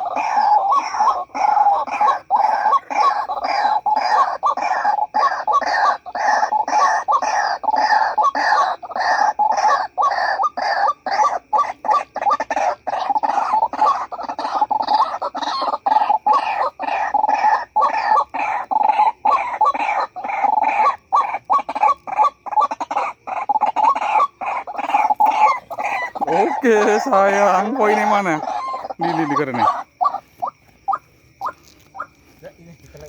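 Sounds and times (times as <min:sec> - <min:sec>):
waterhen calls: 0:00.0 - 0:32.4.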